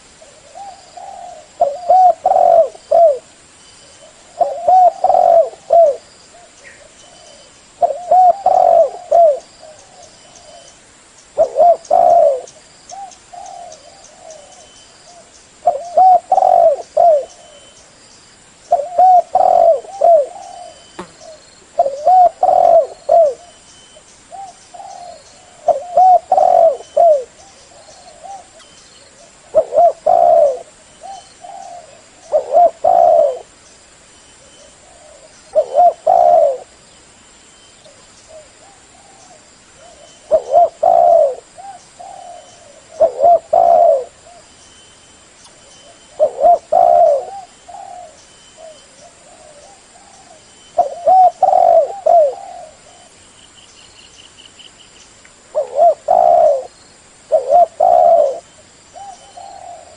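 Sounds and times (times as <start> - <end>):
dove cooing: 0.0 - 3.3, 4.0 - 10.8, 11.4 - 17.8, 18.7 - 23.6, 24.3 - 33.5, 34.4 - 36.8, 37.9 - 44.5, 45.8 - 53.2, 55.5 - 59.9.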